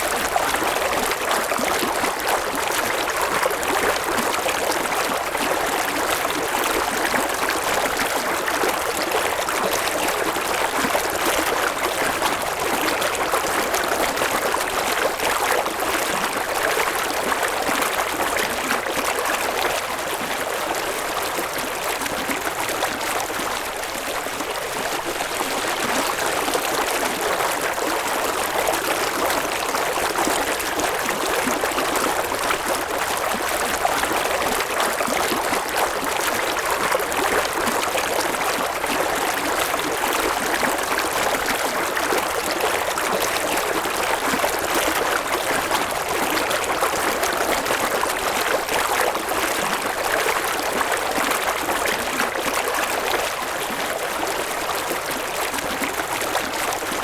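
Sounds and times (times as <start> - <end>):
river water flowing over stones: 0.1 - 57.0.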